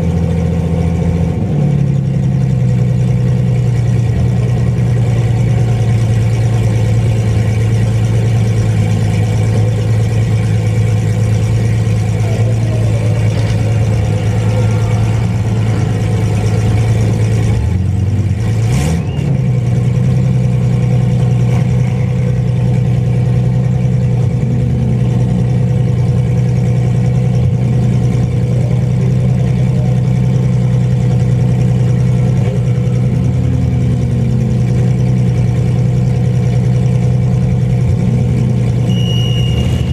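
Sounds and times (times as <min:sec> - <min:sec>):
truck engines running loudly: 0:00.0 - 0:39.9.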